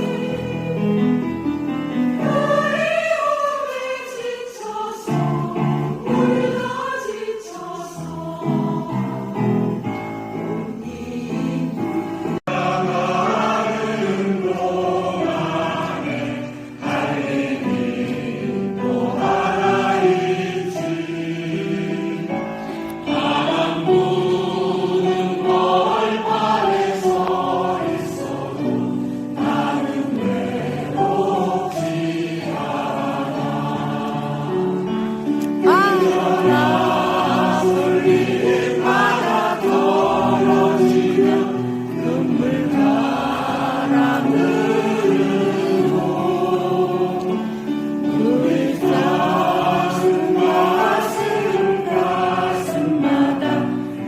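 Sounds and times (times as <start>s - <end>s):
choir singing with accompaniment: 0.0s - 54.0s.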